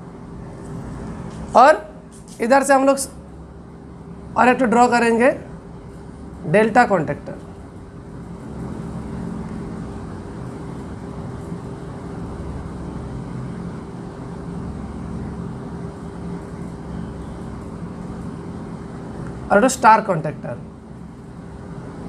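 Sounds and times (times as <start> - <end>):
constant hum: 0.0 - 22.0.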